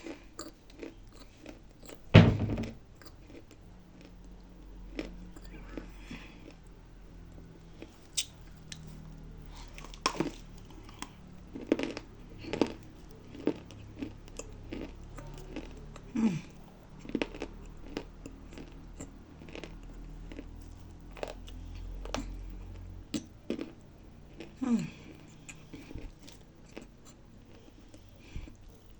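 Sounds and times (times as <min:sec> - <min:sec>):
clay being chewed crunching: 0:00.0 - 0:02.0, 0:02.9 - 0:28.9.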